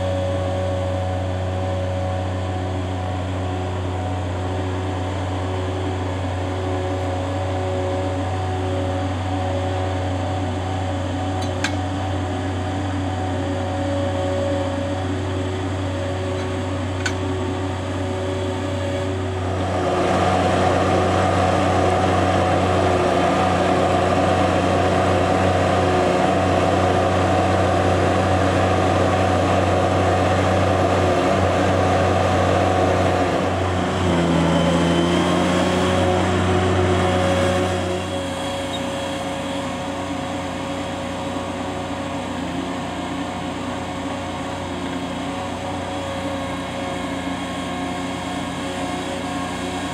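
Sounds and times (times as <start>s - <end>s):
mini loader engine running: 0.0s - 49.9s
trencher wheel cutting soil: 0.0s - 49.9s.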